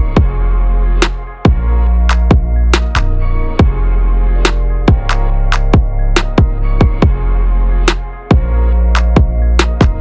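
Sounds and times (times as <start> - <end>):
electronic music with heavy drums: 0.0 - 10.0.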